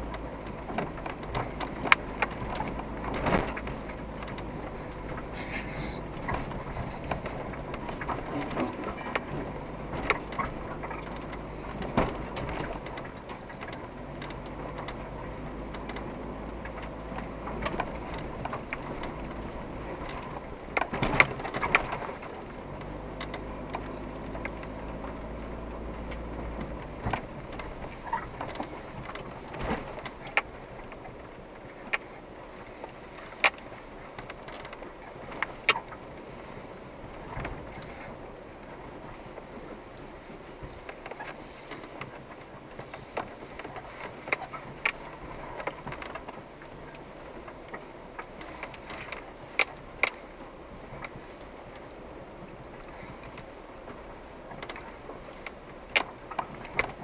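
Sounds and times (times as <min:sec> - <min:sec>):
low engine hum: 0:00.0 - 0:57.0
suspension knocks and rattles: 0:00.0 - 0:57.0.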